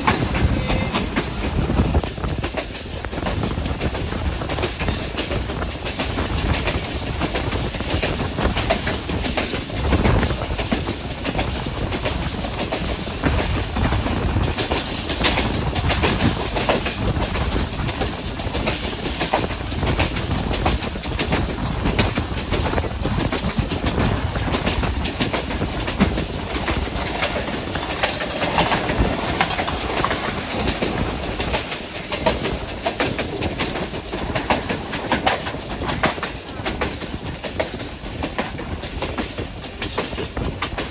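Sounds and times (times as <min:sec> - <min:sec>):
train rumble: 0:00.0 - 0:40.9
train wheels clattering over rail joints: 0:00.0 - 0:40.9.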